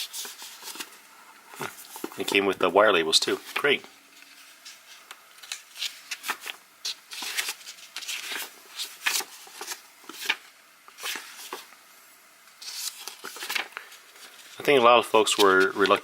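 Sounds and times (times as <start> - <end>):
paper and packaging rustling: 0.0 - 2.5, 3.3 - 11.7, 12.6 - 16.0.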